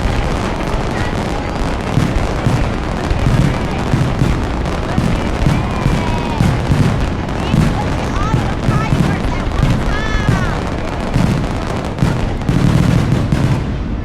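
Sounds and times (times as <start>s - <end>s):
crowd voices: 0.0s - 14.0s
fireworks booming: 0.0s - 14.0s
fireworks crackling: 0.0s - 14.0s.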